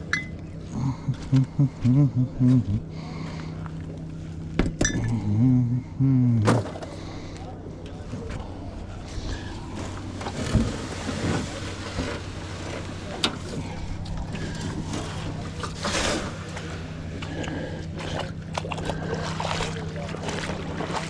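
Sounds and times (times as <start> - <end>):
small boat motor running: 0.0 - 21.0.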